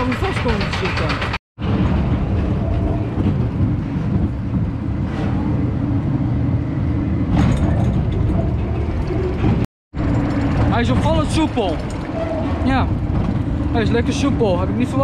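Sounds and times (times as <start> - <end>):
roller coaster wheels rumbling on rails: 0.0 - 15.0.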